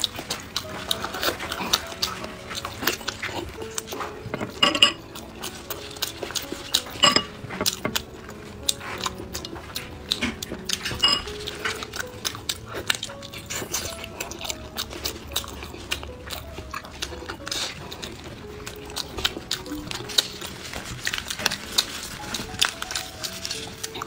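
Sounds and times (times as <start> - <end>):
hands squishing lettuce: 0.0 - 24.0
simple melody background music: 0.0 - 24.0
wet chewing smacks: 0.0 - 24.0.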